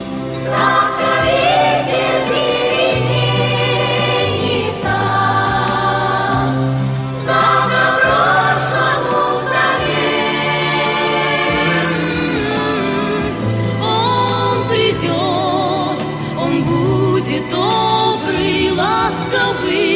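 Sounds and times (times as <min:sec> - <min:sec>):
choir singing: 0:00.0 - 0:19.9.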